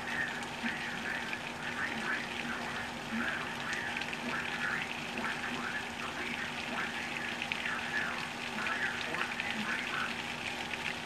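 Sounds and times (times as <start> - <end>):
heavy rain pouring: 0.0 - 10.8.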